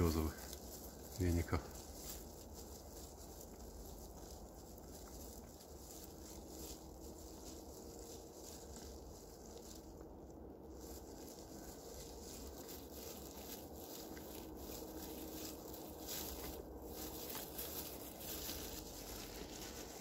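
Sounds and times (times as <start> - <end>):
leaves rustling: 0.0 - 20.0
moose chewing twigs: 0.0 - 20.0.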